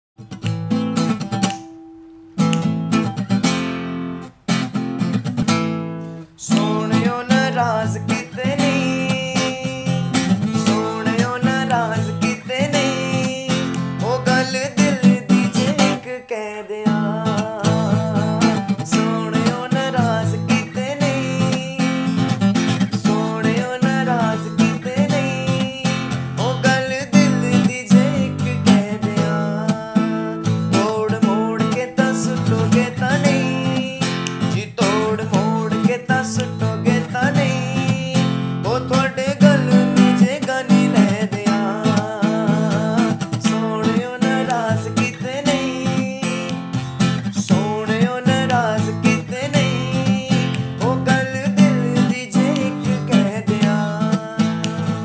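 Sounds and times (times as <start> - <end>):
acoustic guitar chords: 0.2 - 55.0
man singing: 6.4 - 55.0.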